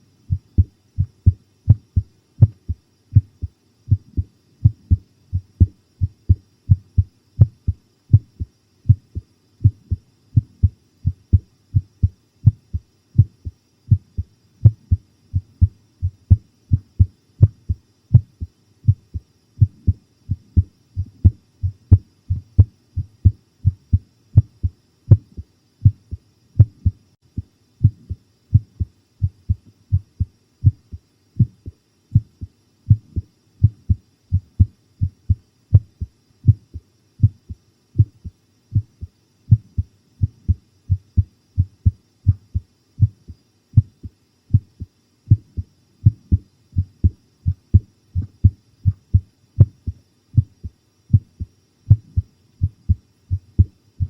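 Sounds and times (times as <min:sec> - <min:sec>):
heartbeat thumps: 0:00.3 - 0:53.8.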